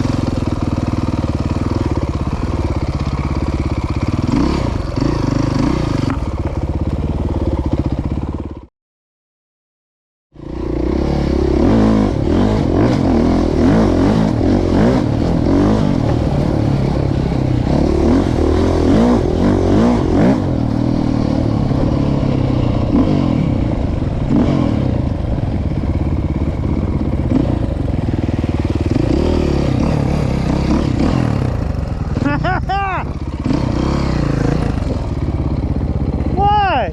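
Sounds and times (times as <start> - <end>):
dirt bike engine revving: 0.0 - 8.6, 10.4 - 36.9.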